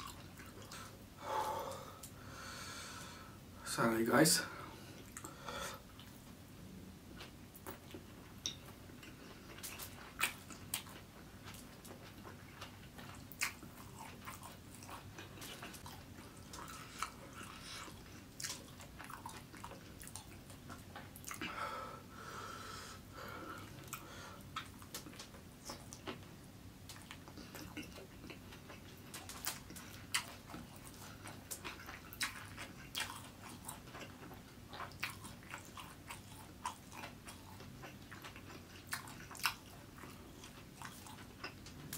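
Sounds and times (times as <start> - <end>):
person chewing food: 0.0 - 3.1, 4.7 - 6.5, 7.1 - 41.9.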